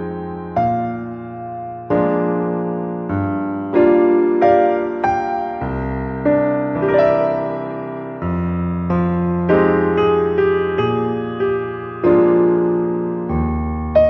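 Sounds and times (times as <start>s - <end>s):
soft electric piano chords: 0.0s - 14.0s.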